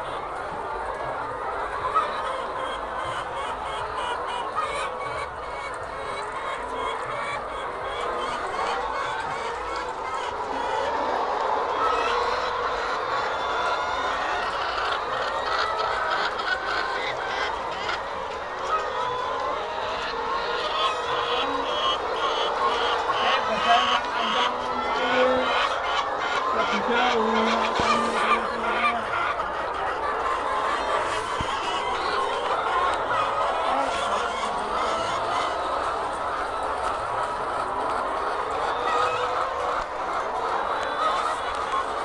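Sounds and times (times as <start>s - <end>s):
hens clucking: 0.0s - 42.0s.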